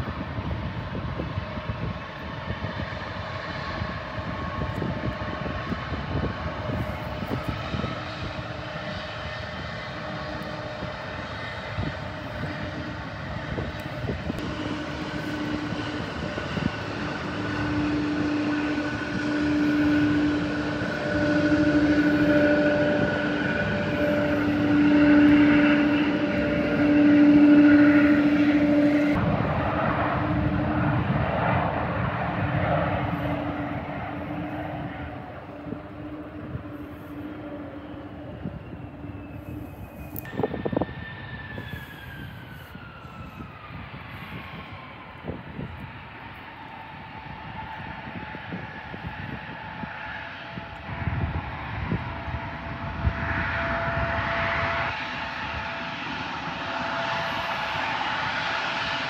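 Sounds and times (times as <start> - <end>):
airliner engines humming: 0.0 - 59.0.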